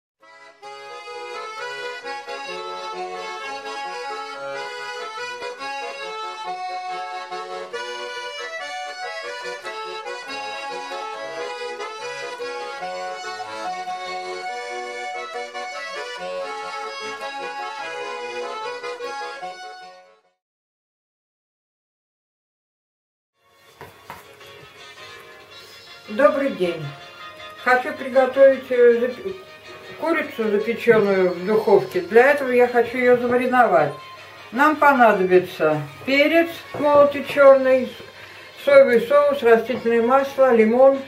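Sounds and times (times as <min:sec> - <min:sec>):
lively instrumental music: 0:00.2 - 0:20.4, 0:23.4 - 0:41.0.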